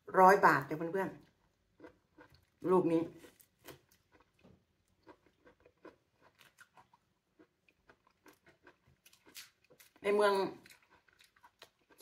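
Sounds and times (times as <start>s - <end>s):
chewing juicy fruit: 0.6s - 12.0s.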